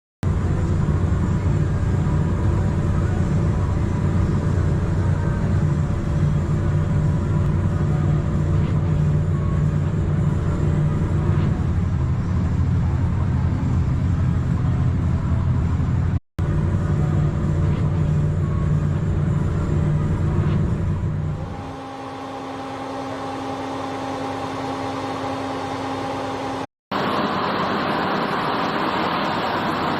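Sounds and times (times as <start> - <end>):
harvester engine droning: 0.2 - 29.9.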